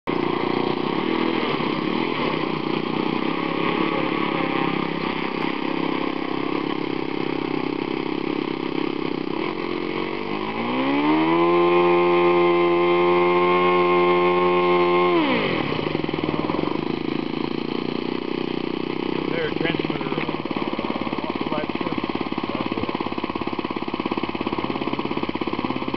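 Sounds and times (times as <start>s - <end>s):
model airplane engine revving: 0.1s - 25.9s.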